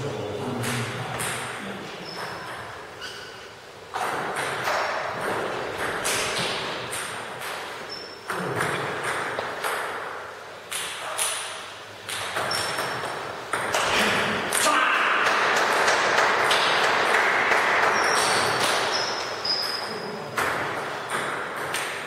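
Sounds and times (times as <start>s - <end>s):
table tennis balls clicking: 0.6s - 3.1s, 3.9s - 22.0s.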